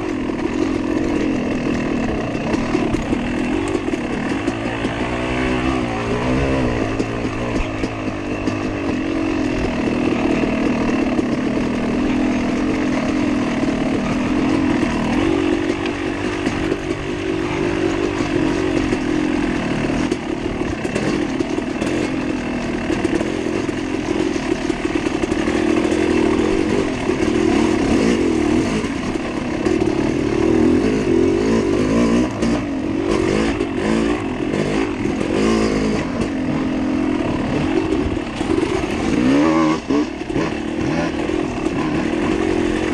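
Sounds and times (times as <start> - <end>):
dirt bike engine revving: 0.0 - 42.9
sharp knocks and clatter: 0.0 - 42.9.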